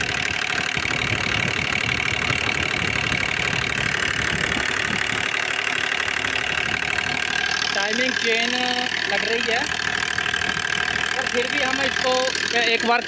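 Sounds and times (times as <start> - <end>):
diesel engine idling with ticking knock: 0.0 - 13.0.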